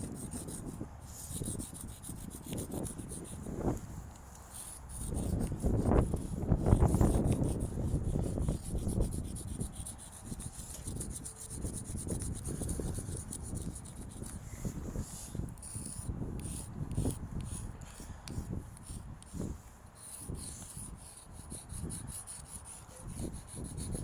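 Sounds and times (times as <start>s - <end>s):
chalk scraping on rough surface: 0.0s - 24.0s
wind buffeting microphone: 0.0s - 24.0s.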